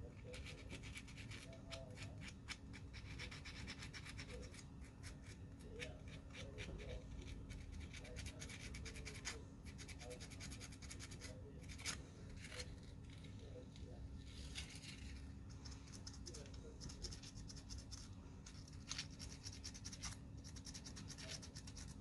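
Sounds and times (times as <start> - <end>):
small scraping and rubbing strokes: 3.0 - 22.0.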